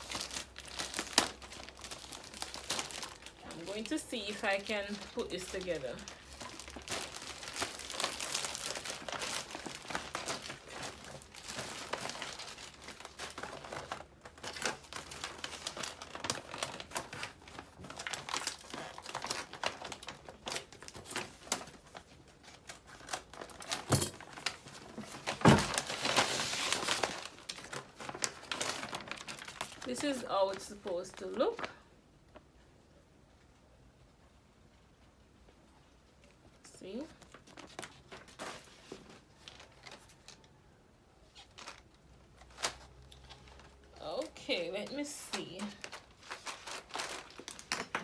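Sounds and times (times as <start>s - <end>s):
plastic bag and paper crinkling: 0.0s - 32.4s, 35.9s - 48.0s.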